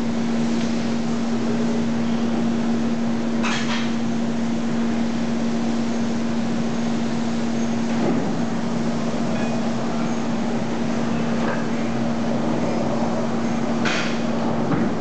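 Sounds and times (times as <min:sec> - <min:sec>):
factory floor background noise: 0:00.0 - 0:15.0
low machine hum: 0:00.0 - 0:15.0.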